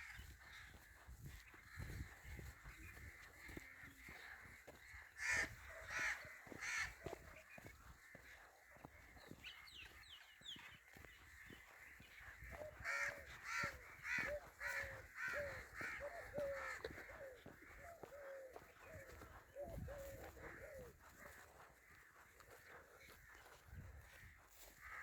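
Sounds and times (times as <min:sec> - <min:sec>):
crows cawing: 0:00.0 - 0:25.0.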